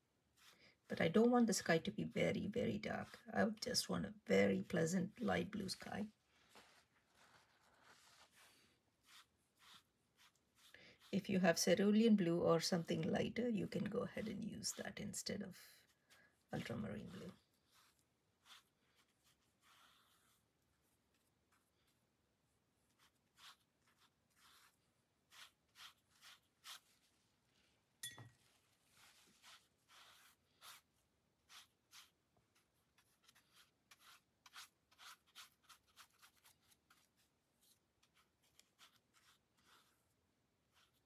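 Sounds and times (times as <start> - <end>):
brush swishing on wet paper: 0.2 - 3.9, 4.6 - 22.0, 22.8 - 27.8, 28.4 - 41.0.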